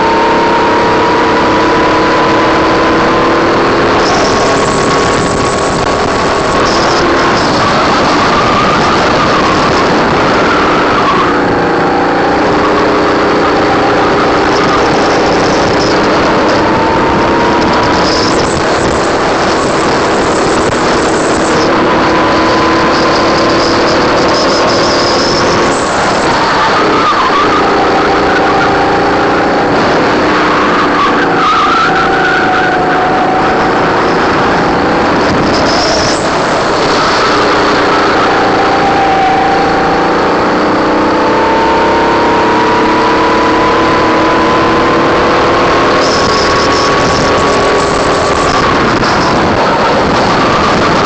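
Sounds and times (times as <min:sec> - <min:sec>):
racing kart engine: 0:00.0 - 0:51.0.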